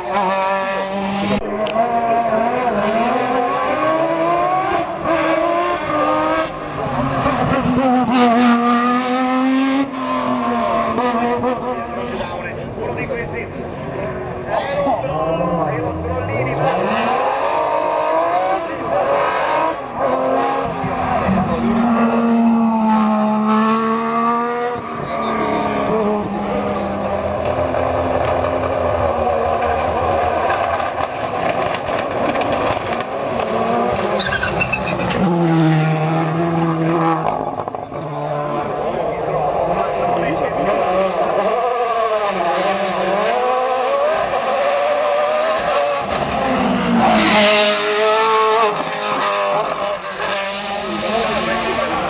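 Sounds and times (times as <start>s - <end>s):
racing car engine at full throttle: 0.0s - 52.0s
rougher car engine: 0.0s - 52.0s.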